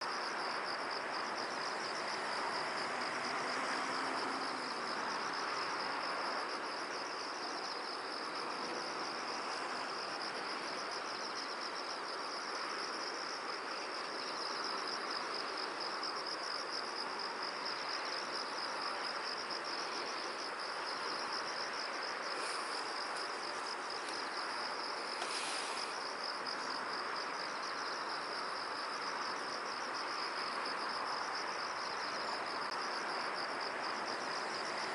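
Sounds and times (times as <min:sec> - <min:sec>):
crickets trilling: 0:00.0 - 0:34.9
wind hiss: 0:00.0 - 0:34.9.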